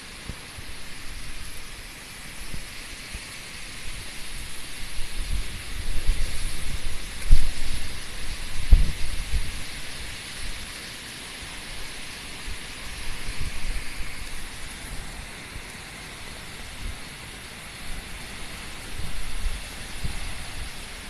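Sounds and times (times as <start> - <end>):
heavy rain hissing: 0.0 - 21.0
wind buffeting microphone: 0.1 - 10.8, 11.4 - 21.0.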